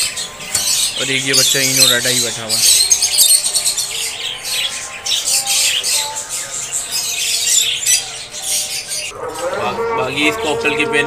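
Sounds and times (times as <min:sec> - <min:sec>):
birds chattering and squawking: 0:00.0 - 0:11.0.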